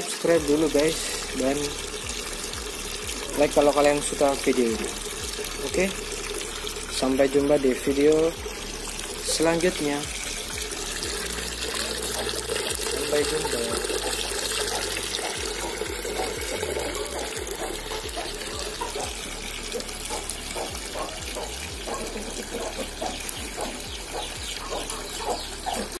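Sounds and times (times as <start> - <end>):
water pouring into bucket: 0.0 - 26.0.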